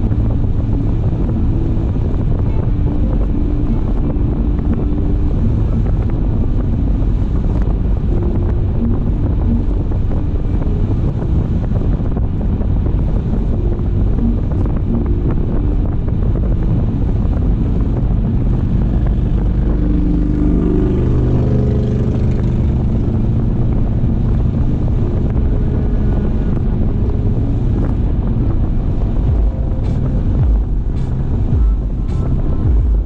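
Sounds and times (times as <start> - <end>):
car road and wind noise: 0.0 - 33.0
pitched hum: 0.0 - 33.0.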